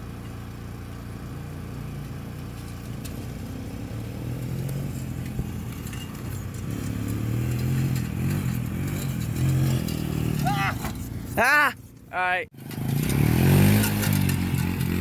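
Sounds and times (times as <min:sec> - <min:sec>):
small off-road vehicle engine: 0:00.0 - 0:15.0.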